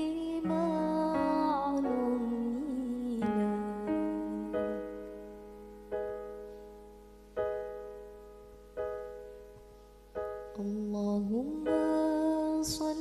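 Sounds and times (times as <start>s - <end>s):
slow keyboard chords: 0.0s - 13.0s.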